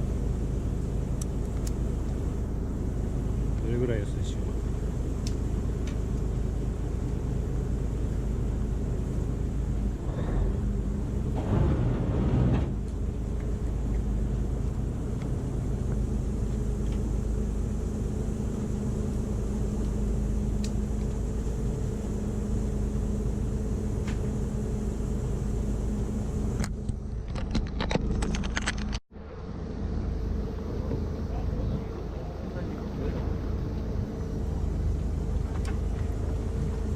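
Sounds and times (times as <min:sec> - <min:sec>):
boat engine humming: 0:00.0 - 0:27.3, 0:29.1 - 0:36.9.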